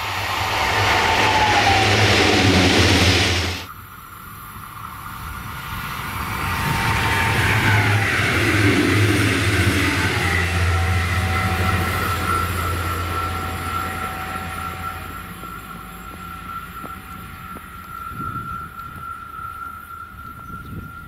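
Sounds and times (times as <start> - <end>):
steady high whine: 0.0 - 21.0
train wheels rumbling on rail: 0.0 - 21.0.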